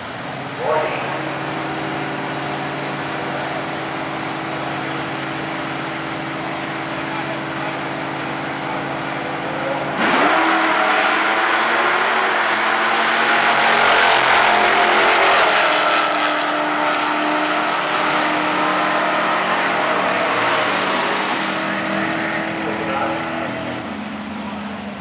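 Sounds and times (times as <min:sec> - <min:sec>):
drag car engines revving: 0:00.0 - 0:25.0.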